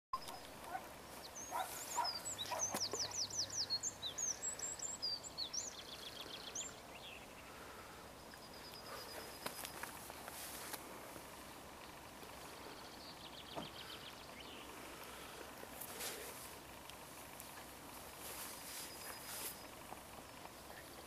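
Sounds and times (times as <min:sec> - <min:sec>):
songbird singing trills: 0:00.2 - 0:10.3, 0:11.4 - 0:14.8, 0:17.6 - 0:21.0.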